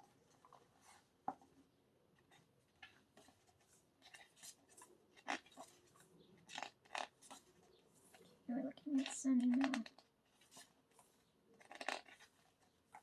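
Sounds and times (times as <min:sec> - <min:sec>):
cards rustling and clicking: 0:02.2 - 0:13.0.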